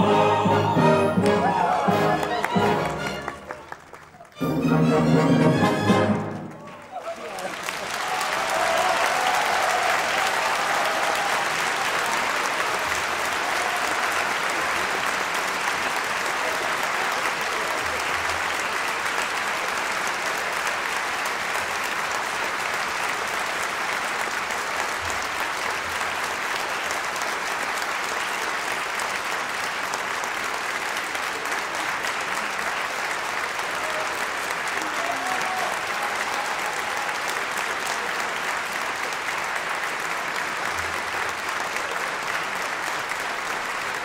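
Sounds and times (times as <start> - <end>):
applause: 0.0 - 44.0.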